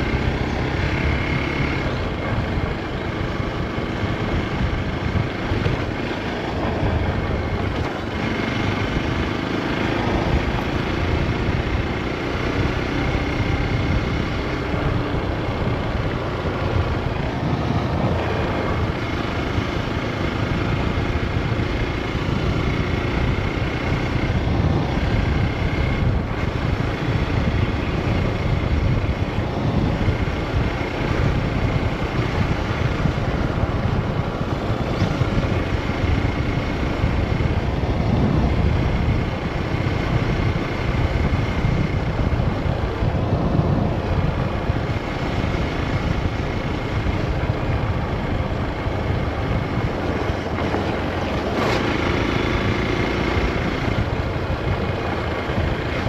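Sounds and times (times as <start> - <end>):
motorcycle engine running: 0.0 - 56.0
road noise: 0.0 - 56.0
wind noise: 0.0 - 56.0.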